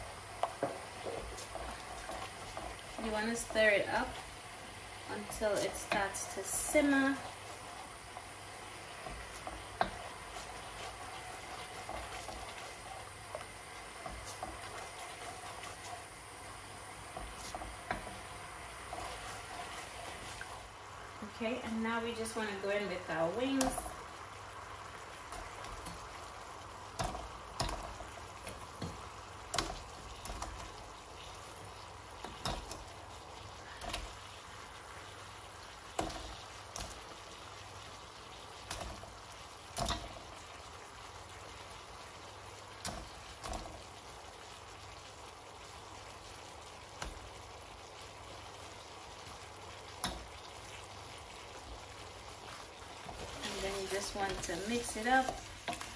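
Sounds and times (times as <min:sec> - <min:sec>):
sauce bubbling: 0:00.0 - 0:55.9.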